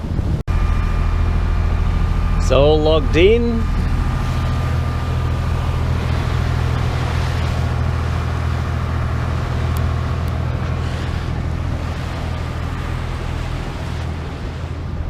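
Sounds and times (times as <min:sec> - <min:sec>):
boat engine humming: 0:00.0 - 0:15.0
water noise: 0:00.0 - 0:15.0
wind: 0:00.0 - 0:15.0.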